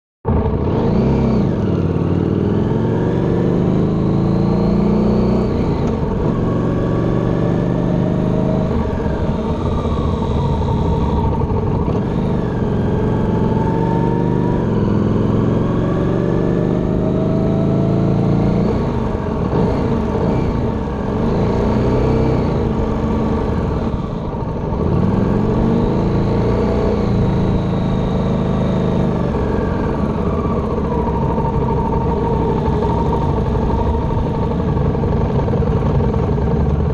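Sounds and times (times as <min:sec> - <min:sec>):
motorcycle engine running: 0:00.3 - 0:36.9.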